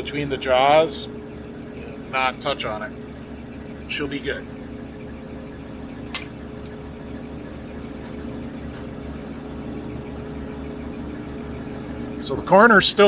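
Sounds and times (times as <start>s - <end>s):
metal lathe humming: 0.0s - 12.7s.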